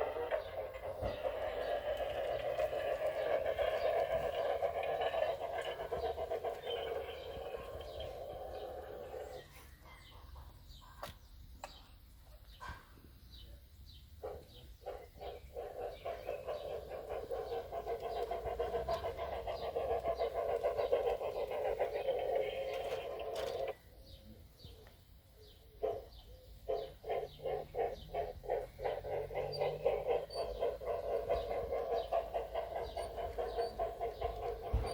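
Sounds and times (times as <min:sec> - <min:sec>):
model steam locomotive chuffing: 0:00.0 - 0:09.8, 0:14.2 - 0:24.0, 0:25.8 - 0:34.9.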